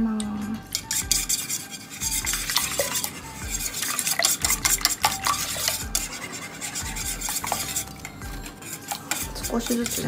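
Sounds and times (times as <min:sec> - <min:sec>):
whisk beating in metal bowl: 0:00.6 - 0:10.0.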